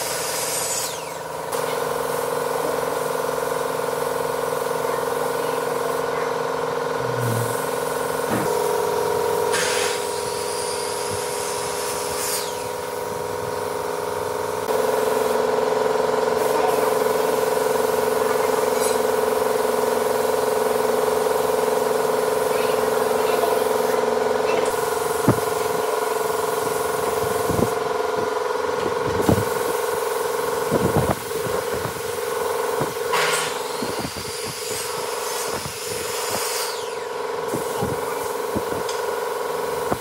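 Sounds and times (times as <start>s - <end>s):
motor whine: 0.0s - 40.0s
power tool motor humming: 0.0s - 40.0s.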